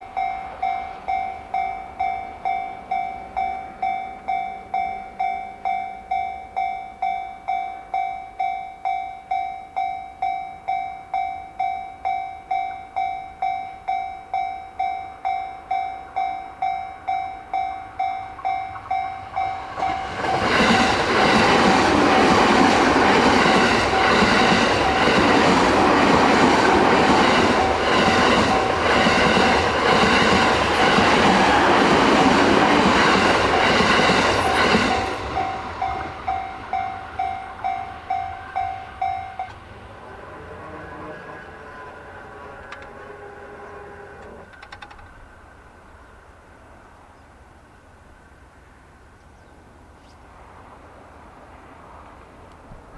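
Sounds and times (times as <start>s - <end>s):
level crossing warning bell: 0.0s - 45.2s
train wheels passing: 0.0s - 49.1s, 49.7s - 52.9s.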